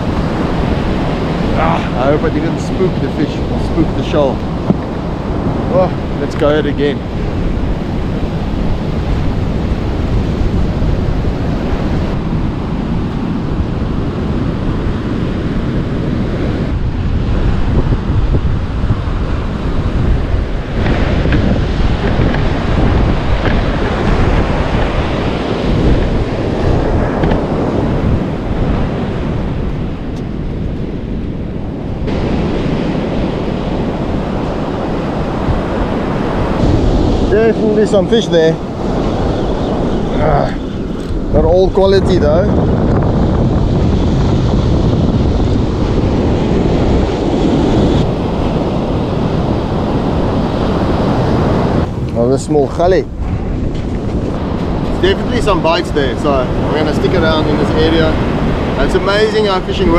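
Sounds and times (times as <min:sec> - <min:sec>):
ocean surf breaking: 0:00.0 - 0:59.9
wind buffeting microphone: 0:00.0 - 0:59.9.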